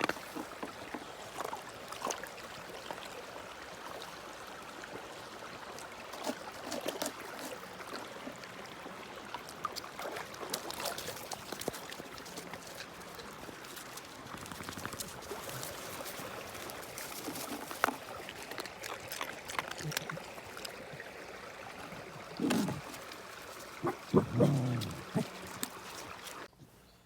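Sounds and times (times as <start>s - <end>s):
small clicks and splashes: 0.0s - 26.5s
water trickling and gurgling: 0.0s - 26.5s.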